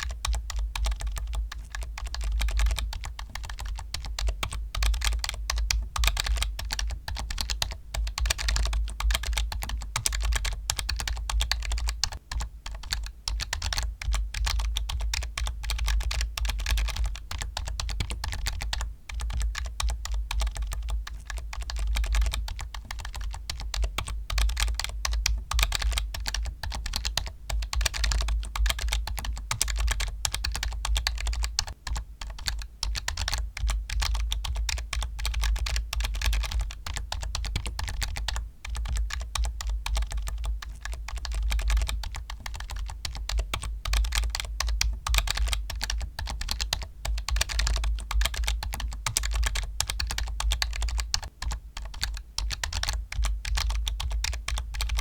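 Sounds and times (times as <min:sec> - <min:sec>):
fast typing on keyboard: 0:00.0 - 0:55.0.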